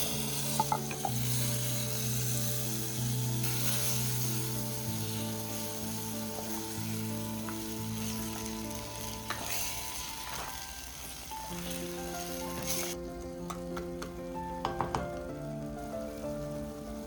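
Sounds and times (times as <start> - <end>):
curry sizzling in a pan: 0.0 - 13.8, 14.4 - 17.0
soft background music: 0.0 - 17.0.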